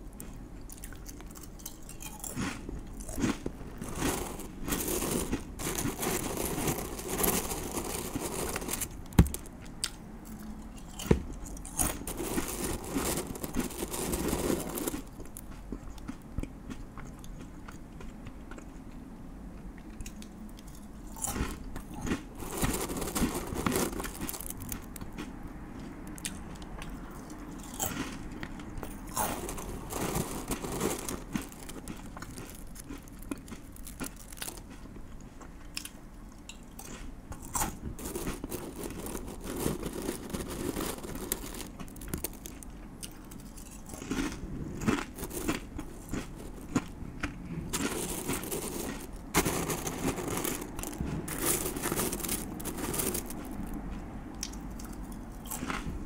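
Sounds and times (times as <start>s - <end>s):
man chewing crunchy food: 0.0s - 19.0s, 19.6s - 56.0s.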